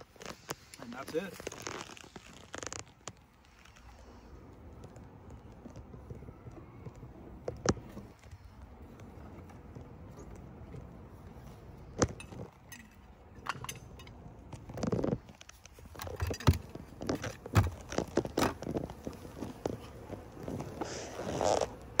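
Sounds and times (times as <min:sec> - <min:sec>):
rustling handling noise: 0:00.0 - 0:13.1, 0:13.8 - 0:22.0.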